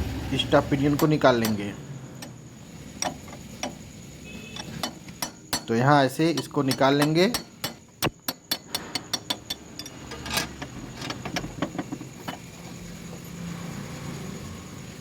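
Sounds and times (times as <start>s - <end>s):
metal parts clinking and knocking: 0.8s - 13.3s.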